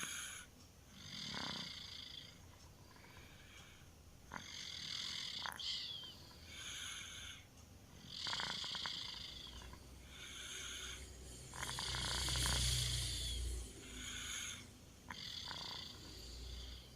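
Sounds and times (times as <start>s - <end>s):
child snoring softly: 0.0s - 16.9s.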